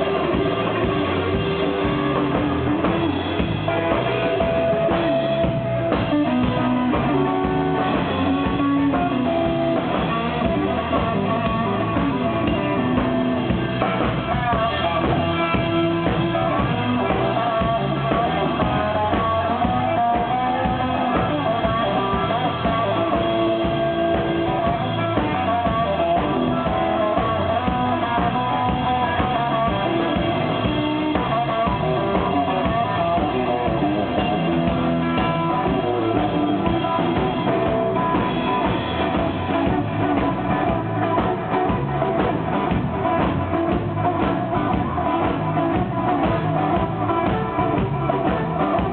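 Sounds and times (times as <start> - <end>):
drum kit: 0.0 - 48.9
hollow-body electric guitar: 0.0 - 48.9.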